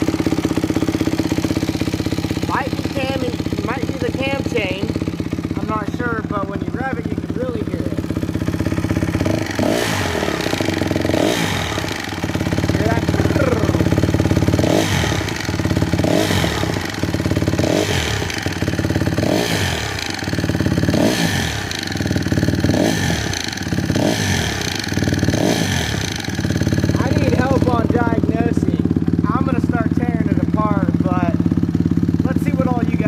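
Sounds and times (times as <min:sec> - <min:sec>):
motorcycle engine throttle blips: 0:00.0 - 0:33.0.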